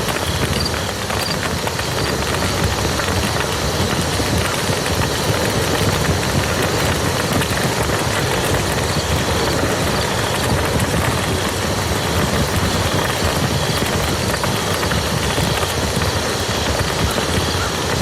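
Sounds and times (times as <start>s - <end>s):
heavy rain on muddy ground: 0.0s - 18.0s.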